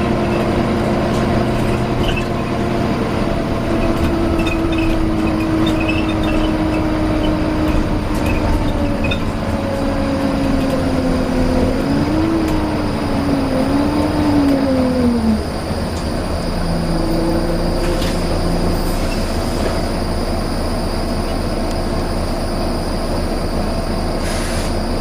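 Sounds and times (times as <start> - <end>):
bus engine whine and rumble: 0.0 - 25.0.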